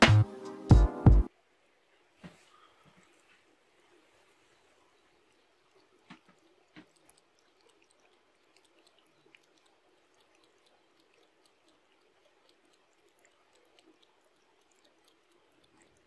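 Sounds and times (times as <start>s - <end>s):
cat lapping water: 2.6s - 16.0s.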